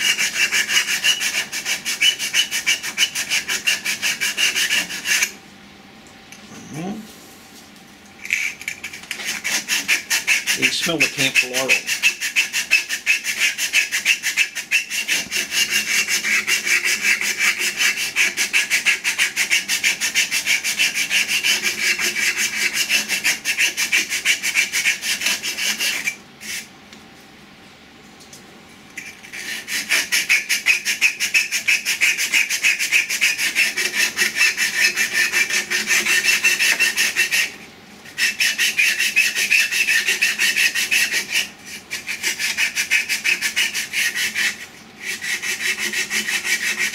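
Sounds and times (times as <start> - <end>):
abrasive cloth sanding wood: 0.0 - 5.3, 9.1 - 26.7, 29.2 - 46.9.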